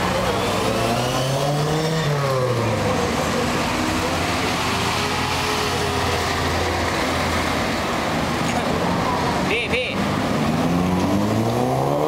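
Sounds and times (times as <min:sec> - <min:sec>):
car engines rolling past: 0:00.0 - 0:12.0.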